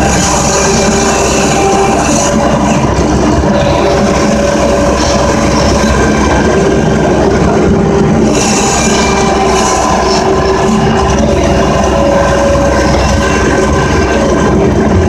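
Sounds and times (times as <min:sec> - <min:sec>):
snow-clearing machine engine running: 0:00.0 - 0:15.0.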